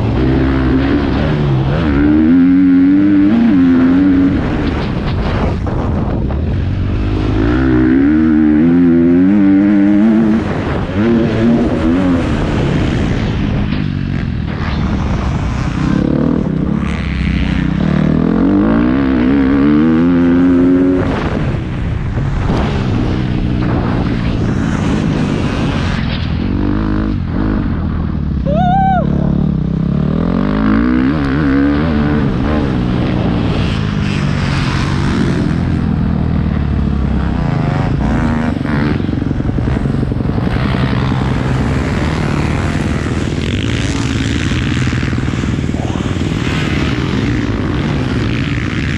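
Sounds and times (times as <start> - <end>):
motocross engine revving: 0.0 - 28.0, 29.1 - 48.9.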